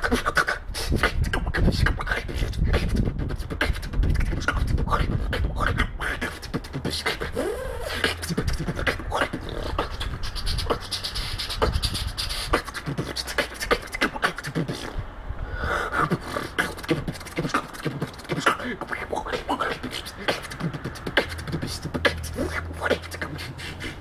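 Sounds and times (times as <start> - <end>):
beatboxing clicks and drum hits: 0.0 - 15.0, 15.8 - 24.0
rising and falling vocal tone: 0.0 - 24.0.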